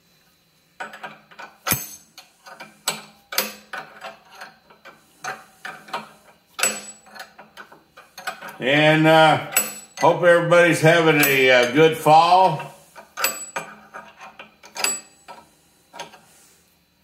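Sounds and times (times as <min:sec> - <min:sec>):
wrench clicking and clanking on metal: 0:00.8 - 0:16.2.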